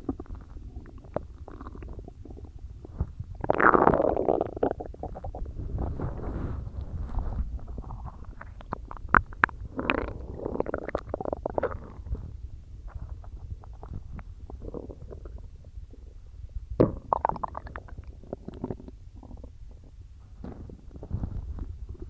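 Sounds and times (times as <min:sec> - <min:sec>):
stomach gurgling: 0:00.0 - 0:22.0.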